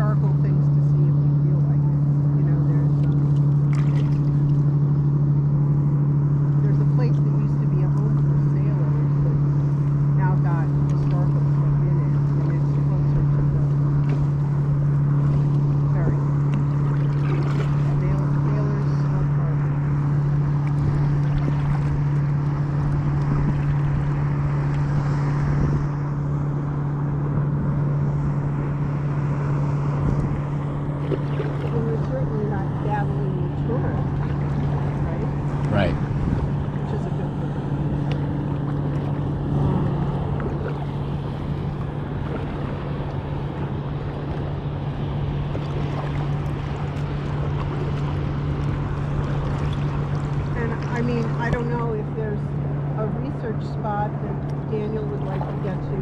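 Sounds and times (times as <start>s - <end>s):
motorboat engine droning: 0.0s - 56.0s
wind and water noise: 0.0s - 56.0s.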